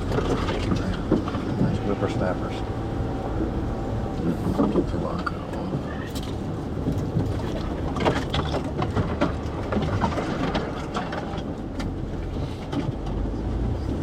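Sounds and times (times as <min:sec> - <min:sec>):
off-road vehicle engine rumble: 0:00.0 - 0:14.0.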